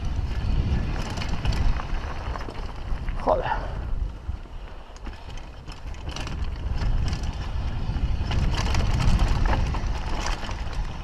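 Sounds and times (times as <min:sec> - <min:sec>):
bike rattling: 0:00.0 - 0:11.0
wind rumble on microphone: 0:00.0 - 0:11.0.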